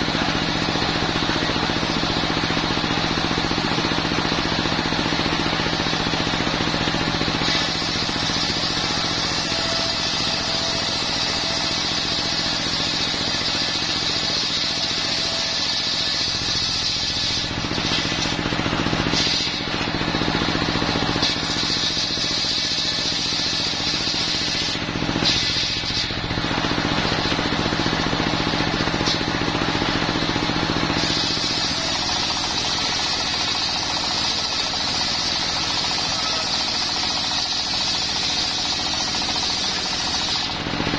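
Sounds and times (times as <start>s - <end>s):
circular saw cutting wood: 0.0s - 40.9s
diesel engine running: 0.0s - 40.9s.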